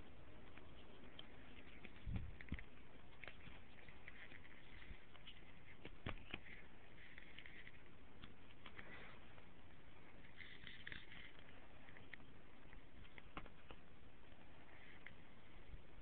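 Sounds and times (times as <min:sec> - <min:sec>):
kitten scratching fabric blanket: 0:00.0 - 0:16.0.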